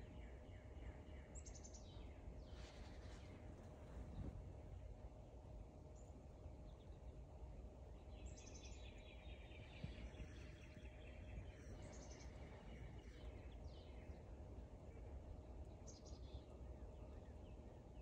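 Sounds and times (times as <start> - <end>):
faint distant bird chirping: 0.0 - 18.0.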